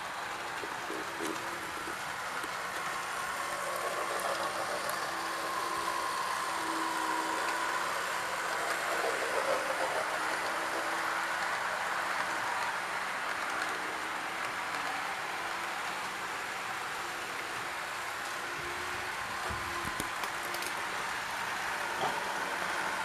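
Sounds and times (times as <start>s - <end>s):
model train motor whine: 0.0s - 23.0s
wheels rattling on rails: 0.0s - 23.0s.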